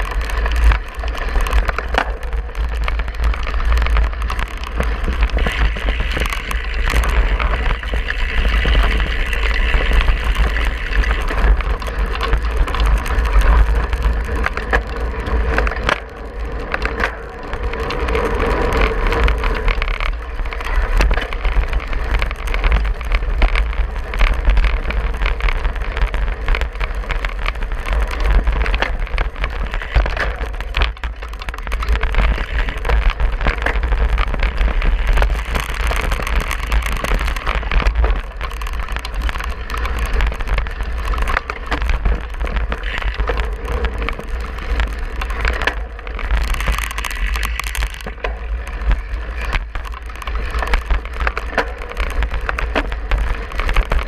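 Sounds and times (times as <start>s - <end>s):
bike rattling over rough ground: 0.0s - 54.0s
steady low rumble: 0.0s - 54.0s.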